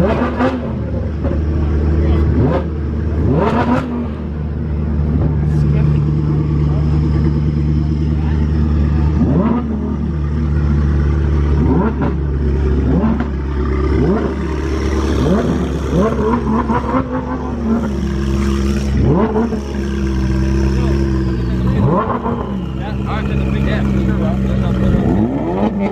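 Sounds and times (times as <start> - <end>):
car engines revving: 0.0 - 25.9
engines idling: 0.0 - 25.9.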